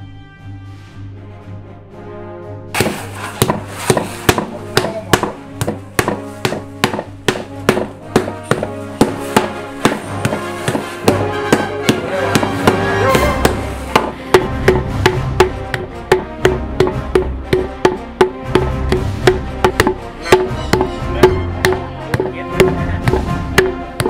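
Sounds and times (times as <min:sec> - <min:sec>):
background music: 0:00.0 - 0:24.0
knocking on wooden board: 0:02.8 - 0:24.0.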